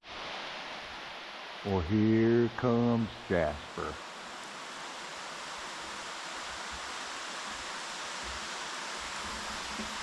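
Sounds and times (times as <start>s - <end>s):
underground waterfall rushing: 0.0s - 10.0s.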